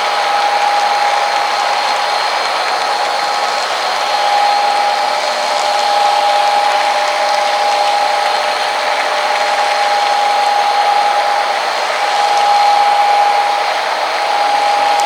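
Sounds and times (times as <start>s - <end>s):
model train motor whine: 0.0s - 15.0s.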